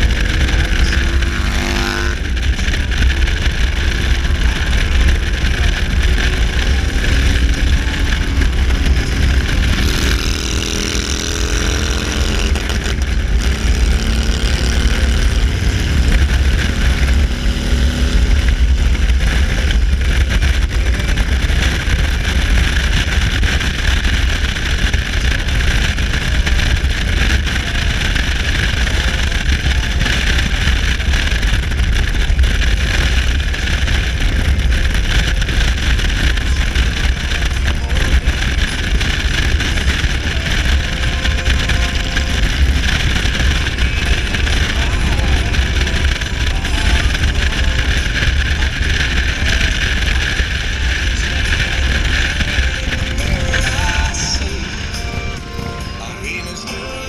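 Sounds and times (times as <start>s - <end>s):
motorcycle engine drone: 0.0s - 57.0s
wind rush on microphone: 0.0s - 57.0s.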